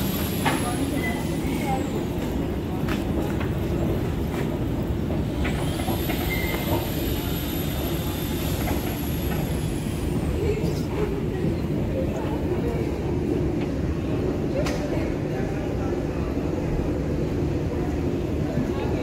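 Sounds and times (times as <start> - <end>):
metro train rumbling: 0.0 - 19.0.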